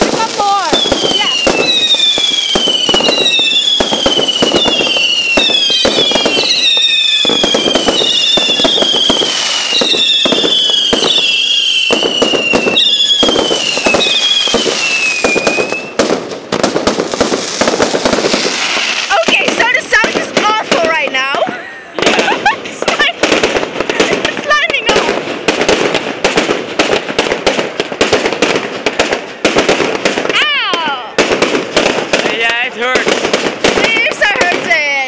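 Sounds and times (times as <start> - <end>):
fireworks crackling and banging: 0.0 - 35.0
whistling fireworks: 0.0 - 35.0.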